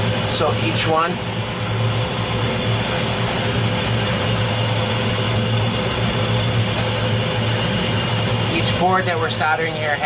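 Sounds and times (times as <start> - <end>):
machine low hum: 0.0 - 10.0.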